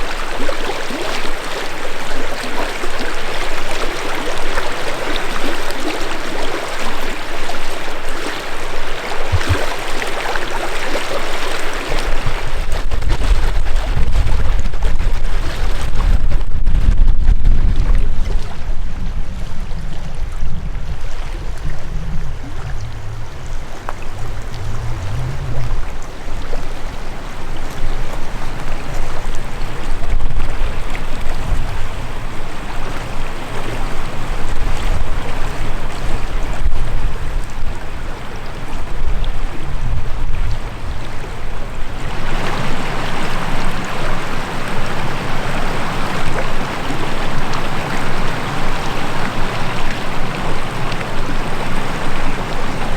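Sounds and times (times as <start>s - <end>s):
river water rushing: 0.0s - 12.8s, 18.3s - 39.7s, 40.5s - 52.9s
wind rumble on microphone: 0.0s - 52.9s.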